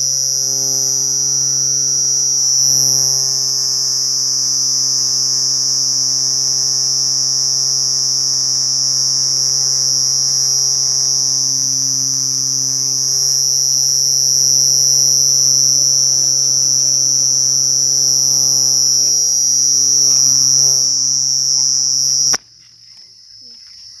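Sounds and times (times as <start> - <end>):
cricket trilling: 0.0 - 24.0.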